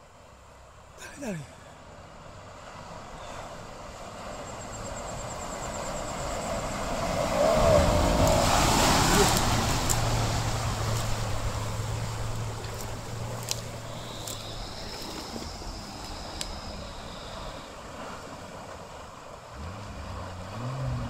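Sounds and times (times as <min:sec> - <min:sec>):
vehicle engine: 0:00.0 - 0:21.0
water churning and splashing: 0:01.2 - 0:21.0.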